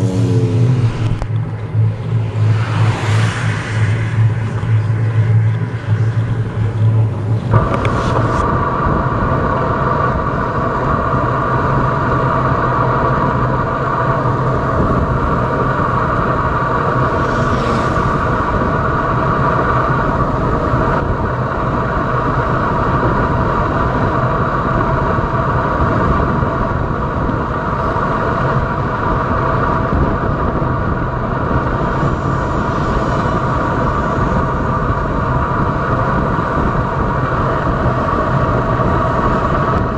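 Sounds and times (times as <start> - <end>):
bicycle road noise: 0.0 - 39.9
constant hum: 0.0 - 39.9
wind rumble: 0.0 - 39.9.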